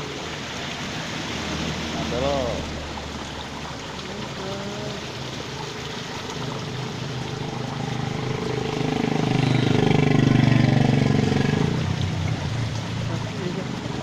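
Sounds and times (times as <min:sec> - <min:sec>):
stream rushing: 0:00.0 - 0:14.0
vehicle engine passing: 0:00.7 - 0:14.0.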